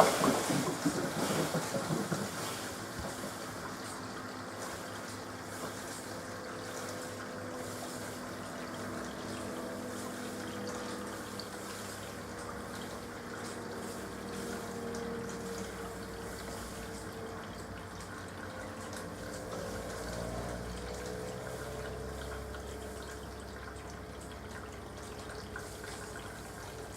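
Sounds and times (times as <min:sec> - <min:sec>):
washing machine water running: 0:00.0 - 0:26.9.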